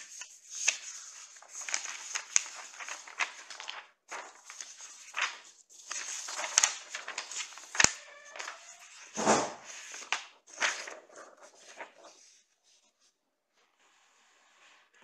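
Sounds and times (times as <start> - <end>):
paper rustling: 0.0 - 13.2.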